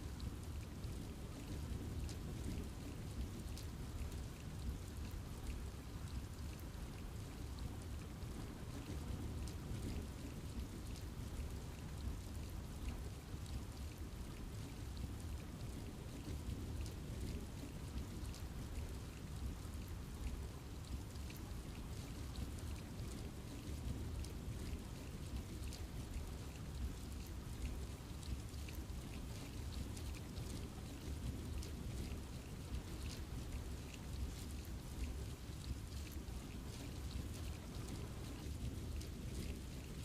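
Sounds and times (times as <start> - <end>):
rain falling in forest: 0.0 - 40.0.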